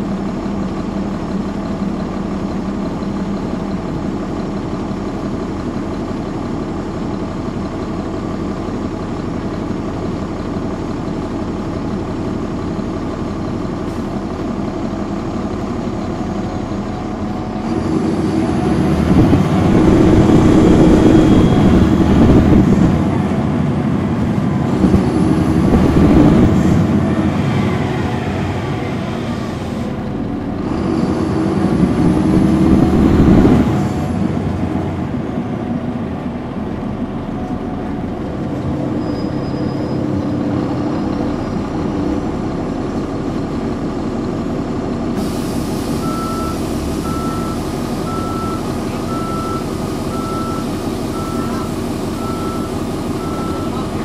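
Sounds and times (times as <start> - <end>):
bus diesel engine pulling away: 0.0 - 54.0.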